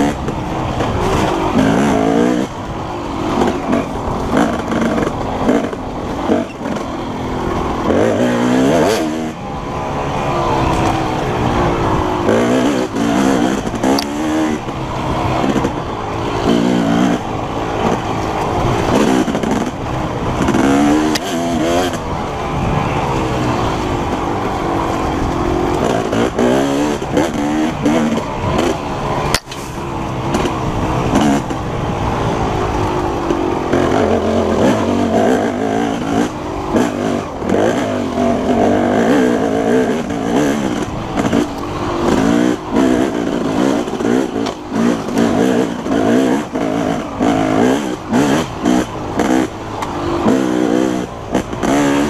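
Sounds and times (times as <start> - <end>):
dirt bike engine revving hard: 0.0 - 52.0.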